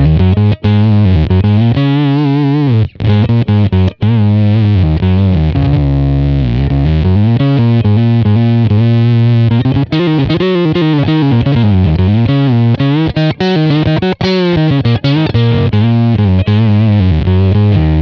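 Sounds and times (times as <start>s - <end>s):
distorted synth-like electric guitar: 0.0s - 18.0s.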